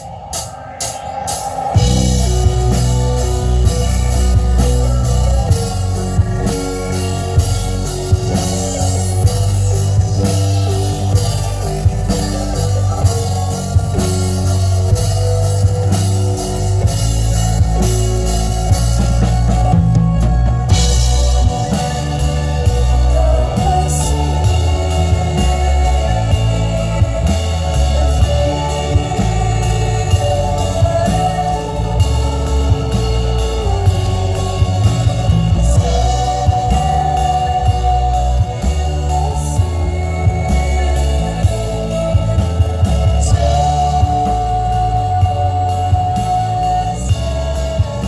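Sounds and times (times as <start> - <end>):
live synth-pop band: 0.0 - 48.0.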